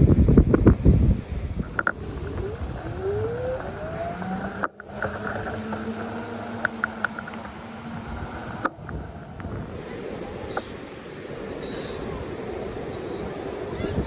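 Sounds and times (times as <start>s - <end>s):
wind noise on microphone: 0.0s - 14.0s
vehicle engine speeding up: 1.5s - 12.9s.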